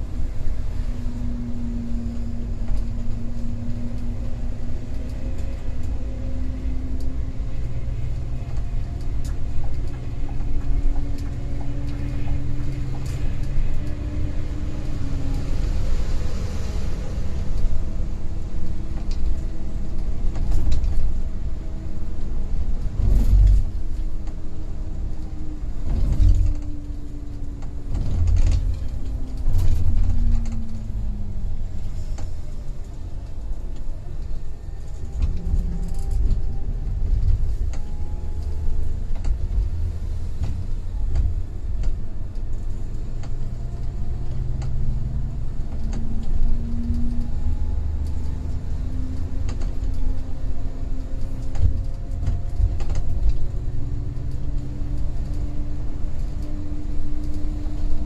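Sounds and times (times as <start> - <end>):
bus engine drone: 0.0 - 58.0
low road rumble: 0.0 - 58.0.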